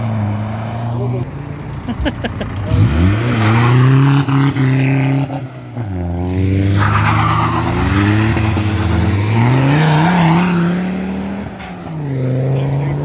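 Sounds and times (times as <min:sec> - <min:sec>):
car engines accelerating hard: 0:00.0 - 0:13.0.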